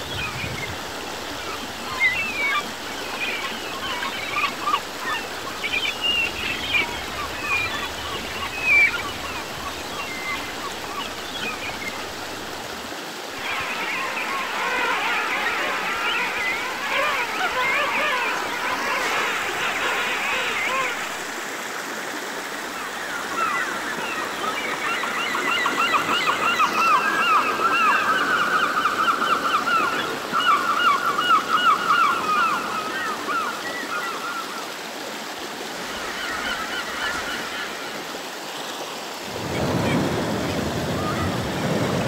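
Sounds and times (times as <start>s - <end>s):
stream running over rocks: 0.0s - 42.0s.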